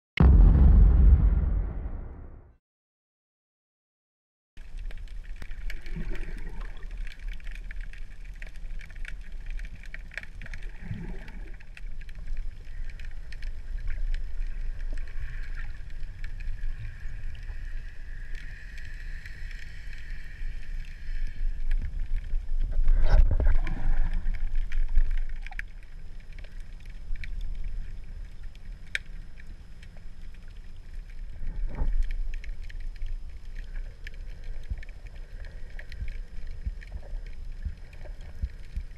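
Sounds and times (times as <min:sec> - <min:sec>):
muffled underwater rumble: 0:00.2 - 0:02.3, 0:04.6 - 0:38.9
faint clicks: 0:04.6 - 0:38.9.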